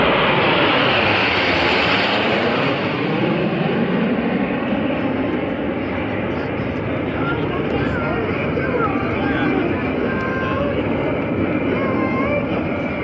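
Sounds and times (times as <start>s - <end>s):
jet engines flying by: 0.0s - 13.0s.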